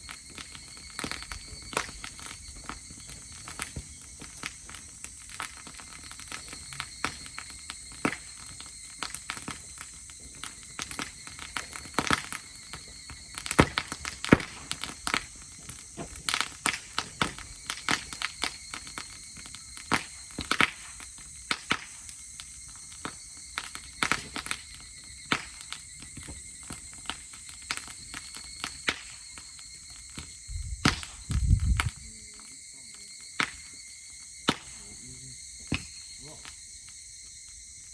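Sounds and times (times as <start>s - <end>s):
campfire crackling: 0.0s - 37.9s
sharp pops and snaps: 0.0s - 37.9s.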